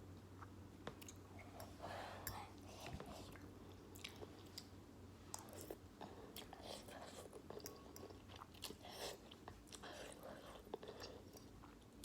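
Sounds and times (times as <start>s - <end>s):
faint chewing of noodles: 0.3s - 12.0s.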